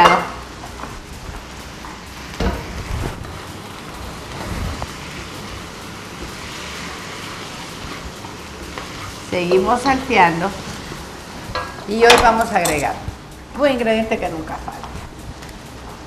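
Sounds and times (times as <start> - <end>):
food sizzling in a hot wok: 0.0 - 13.5.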